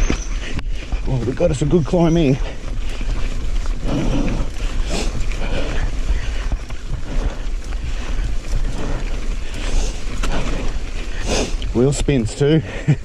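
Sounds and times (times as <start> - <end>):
mountain bike riding rumble: 0.0 - 13.0
wind buffeting microphone: 0.0 - 13.0.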